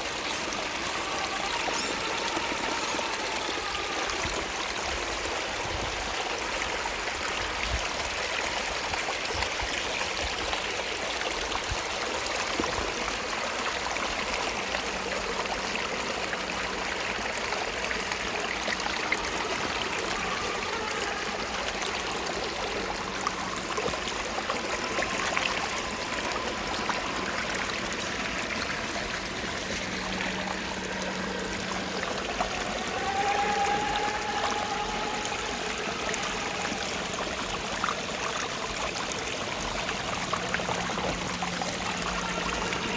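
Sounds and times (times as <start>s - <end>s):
stream water rushing: 0.0s - 42.9s.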